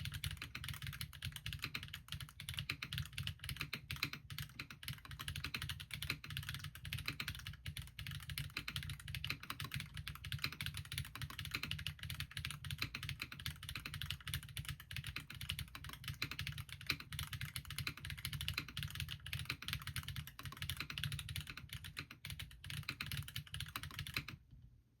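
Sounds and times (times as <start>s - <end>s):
fast typing on mechanical keyboard: 0.0s - 24.4s.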